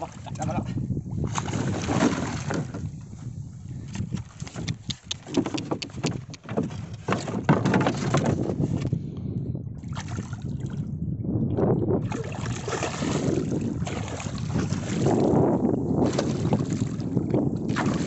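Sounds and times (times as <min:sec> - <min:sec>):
water sloshing against boat: 0:00.0 - 0:08.9, 0:09.8 - 0:18.0.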